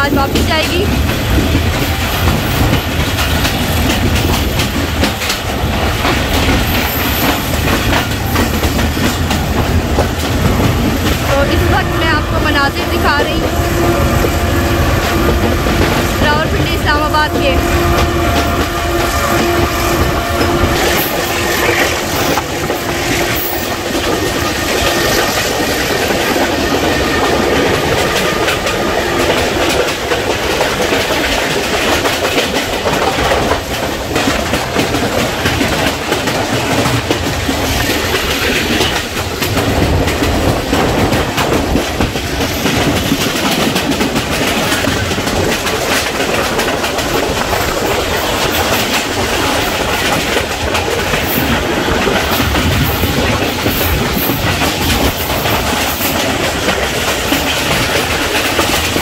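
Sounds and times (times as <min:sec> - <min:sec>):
train wheels clattering over rail joints: 0:00.0 - 0:12.0, 0:13.1 - 0:59.0
train running noise: 0:00.0 - 0:59.0.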